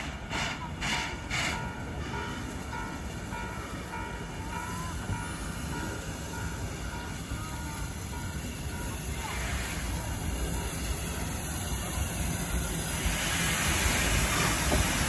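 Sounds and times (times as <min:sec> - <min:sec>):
steam locomotive approaching: 0:00.0 - 0:15.0.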